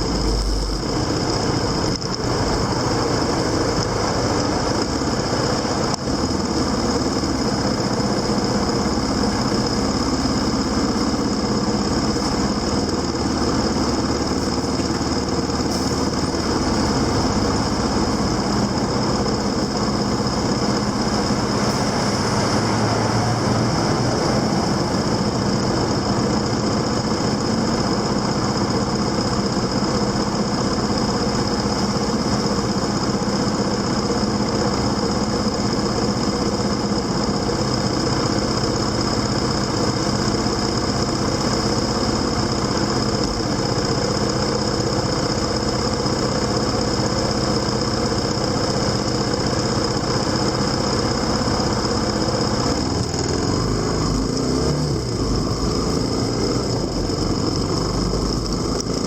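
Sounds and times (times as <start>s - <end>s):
motorcycle engine running: 0.0s - 59.0s
steady high whine: 0.0s - 59.0s.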